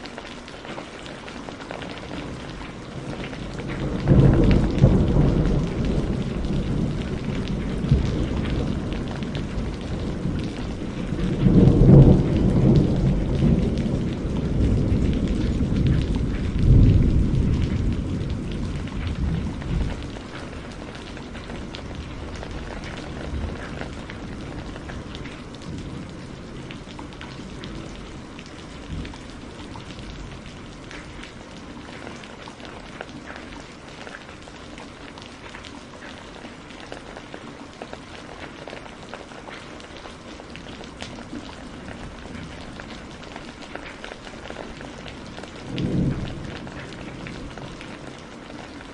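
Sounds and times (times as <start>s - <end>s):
steady rain patter: 0.0s - 48.9s
faint distant thunder rumbles: 1.4s - 48.9s
low roll of thunder: 1.8s - 33.4s, 40.1s - 48.9s.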